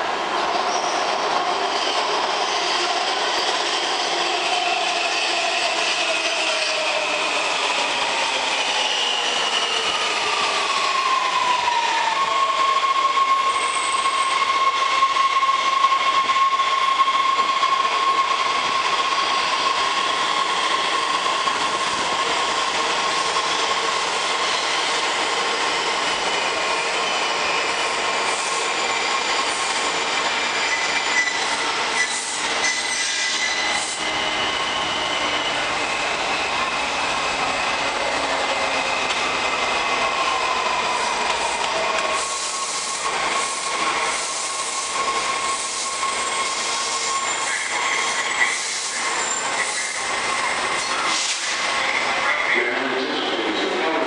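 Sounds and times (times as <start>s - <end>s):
subway train whine: 0.0s - 54.0s.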